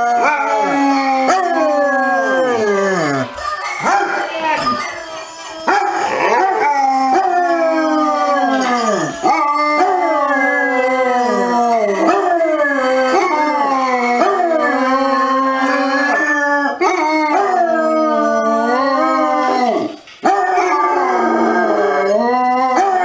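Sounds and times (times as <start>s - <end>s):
dogs howling: 0.0s - 23.0s.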